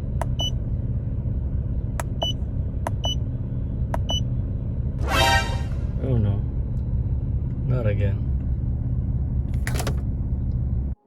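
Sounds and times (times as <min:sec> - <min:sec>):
car engine idling: 0:00.0 - 0:05.0, 0:05.6 - 0:11.0.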